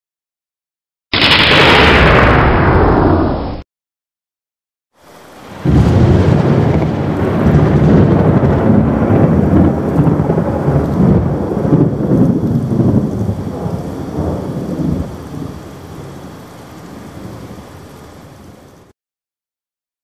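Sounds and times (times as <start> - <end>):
thunder rumbling: 1.2 - 3.6, 5.1 - 18.9.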